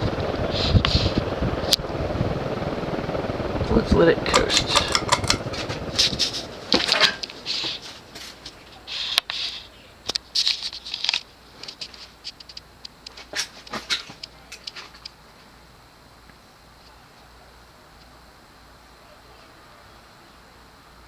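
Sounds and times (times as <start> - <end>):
ceiling fan clicks and rattles: 0.0 - 9.4, 10.0 - 18.8
ceiling fan motor hum: 0.0 - 21.0.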